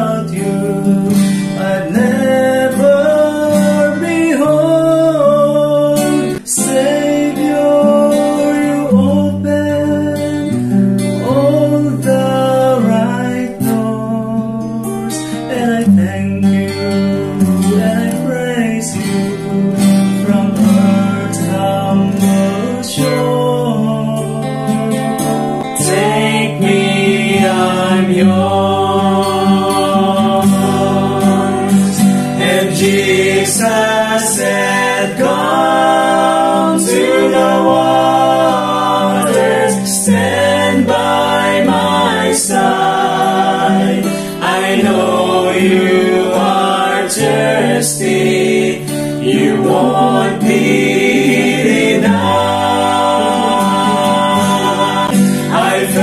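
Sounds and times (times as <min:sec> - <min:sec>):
acoustic guitar: 0:00.0 - 0:56.0
vocal group singing in harmony: 0:00.0 - 0:56.0.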